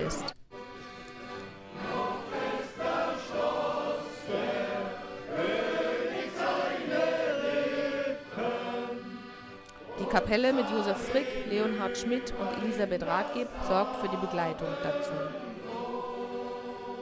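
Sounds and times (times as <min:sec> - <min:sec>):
large group singing: 0:01.7 - 0:17.0.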